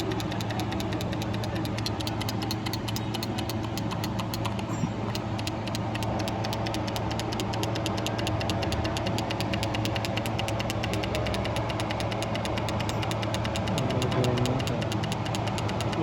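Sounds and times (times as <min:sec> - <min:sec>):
fast even engine ticking: 0:00.0 - 0:16.0.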